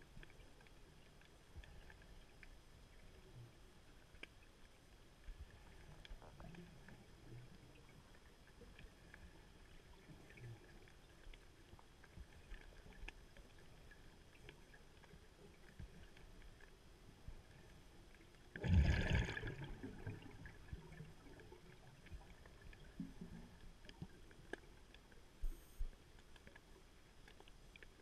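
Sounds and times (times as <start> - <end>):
faint underwater clicks: 0.0 - 28.0.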